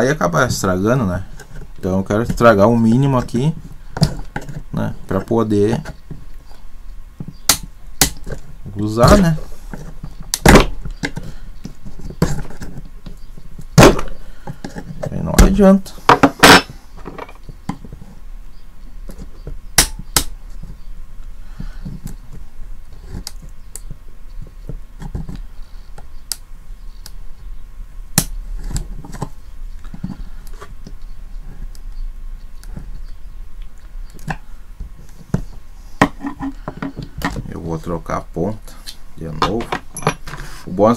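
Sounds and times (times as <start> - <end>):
faint low hum: 0.0 - 40.9.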